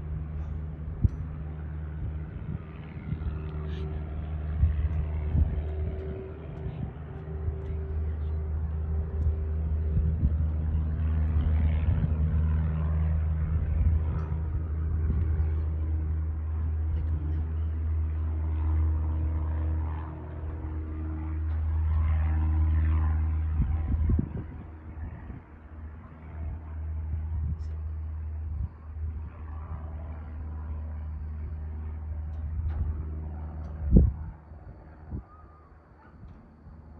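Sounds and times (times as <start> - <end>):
light aircraft engine droning: 0.0 - 36.9.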